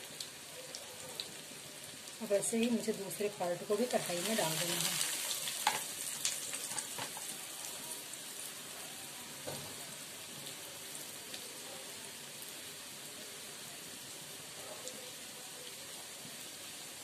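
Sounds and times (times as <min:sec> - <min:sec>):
patties sizzling in hot oil: 0:00.0 - 0:17.0.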